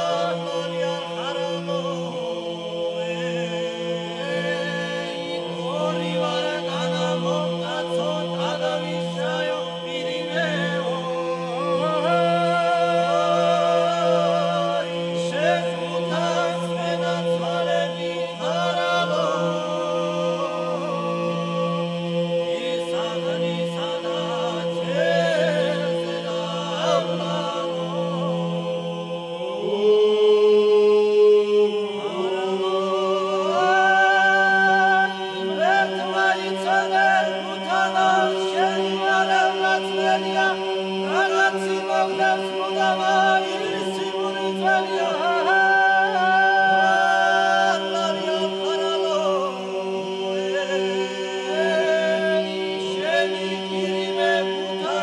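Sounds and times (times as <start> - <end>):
male choir singing a cappella: 0.0 - 55.0.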